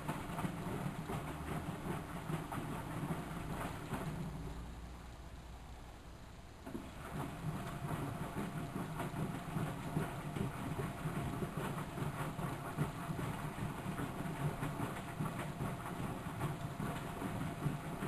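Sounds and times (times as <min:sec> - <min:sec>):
washing machine rumble: 0:00.0 - 0:18.0.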